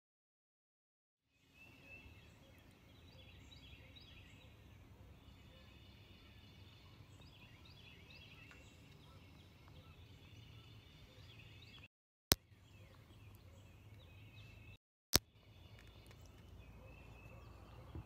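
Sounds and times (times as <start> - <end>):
birds chirping: 1.4 - 18.0.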